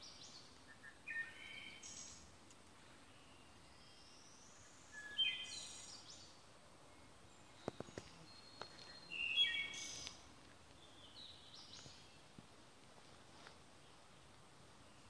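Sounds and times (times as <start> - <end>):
songbird singing: 0.0 - 12.5.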